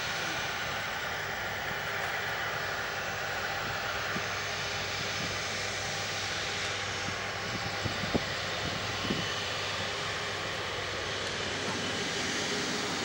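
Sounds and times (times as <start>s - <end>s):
jet engines idling whine: 0.0s - 13.0s.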